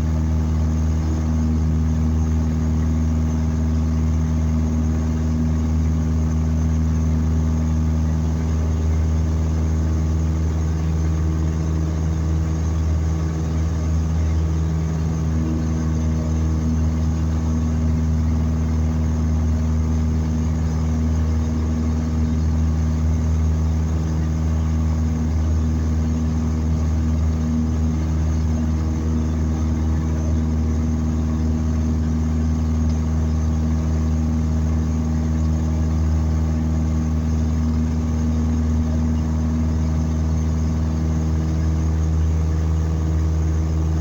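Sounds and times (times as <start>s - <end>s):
light aircraft engine droning: 0.0s - 44.0s.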